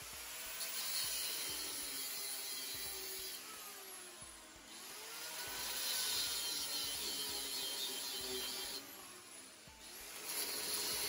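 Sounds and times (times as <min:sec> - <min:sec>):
power tool grinding metal: 0:00.0 - 0:11.0.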